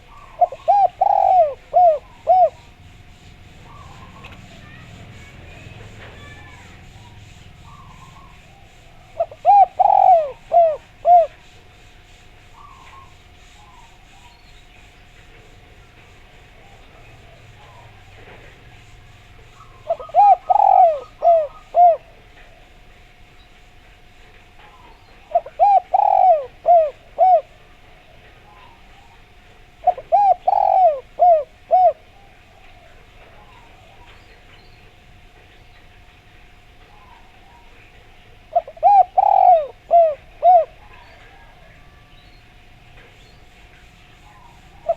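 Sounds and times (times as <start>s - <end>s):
dove cooing: 0.0s - 14.2s, 15.4s - 22.8s, 24.6s - 35.0s, 36.8s - 44.9s
faint bird chirps: 0.0s - 22.8s, 24.6s - 44.9s
faint steady hum: 0.0s - 44.9s.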